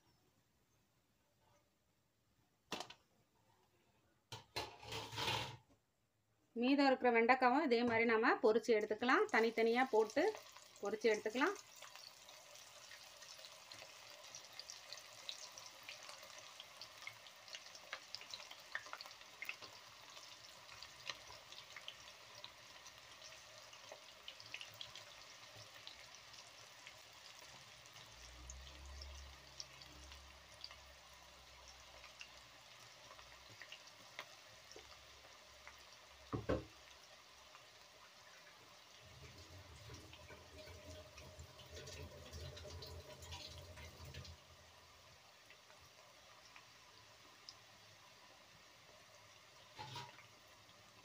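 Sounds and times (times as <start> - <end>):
food sizzling in hot oil: 8.2 - 51.0.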